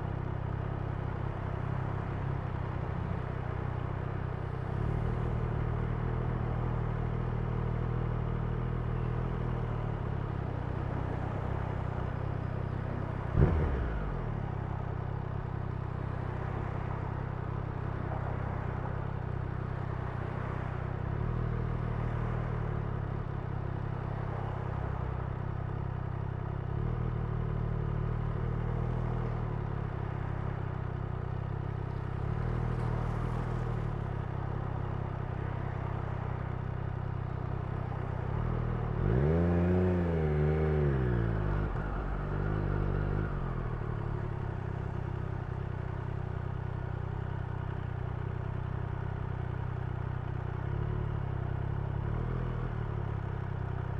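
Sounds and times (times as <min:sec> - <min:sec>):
motorcycle engine and exhaust: 0:00.0 - 0:53.9.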